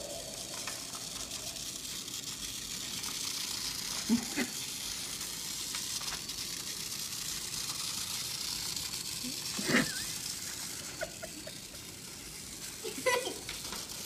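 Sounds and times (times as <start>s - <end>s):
toy car whirring: 0.0s - 14.0s.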